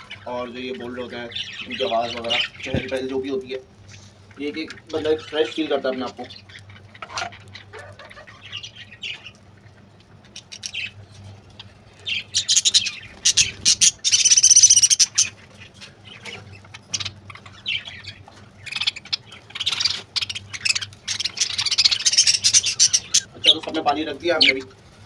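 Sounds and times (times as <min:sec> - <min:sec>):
parrots chattering and squawking: 0:00.0 - 0:25.0.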